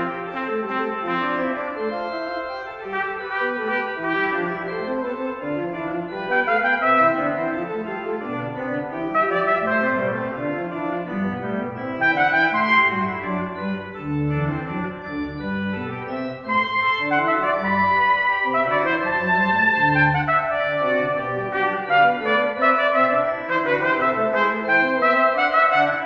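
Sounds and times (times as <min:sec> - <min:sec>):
instrumental background music: 0:00.0 - 0:26.0.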